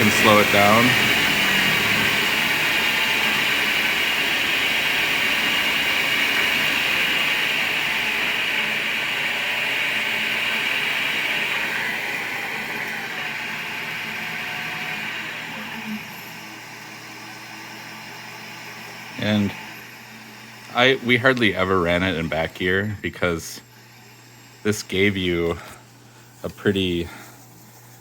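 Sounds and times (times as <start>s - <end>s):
lathe motor whirring: 0.0s - 25.8s.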